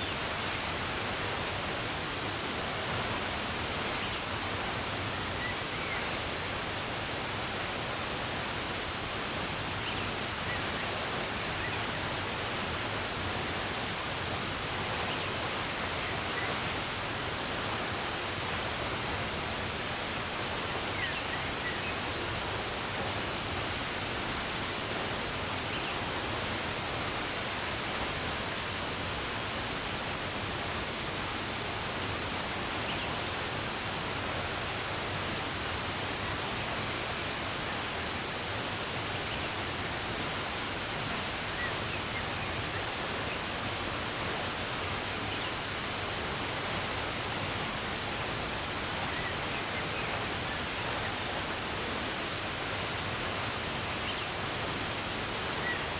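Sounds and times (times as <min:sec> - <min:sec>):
running water rushing: 0:00.0 - 0:55.9.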